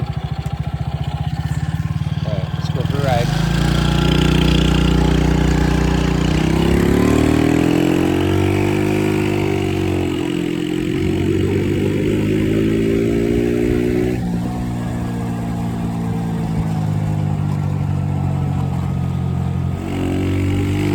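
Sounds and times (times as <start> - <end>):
moped engine revving: 0.0 - 20.9.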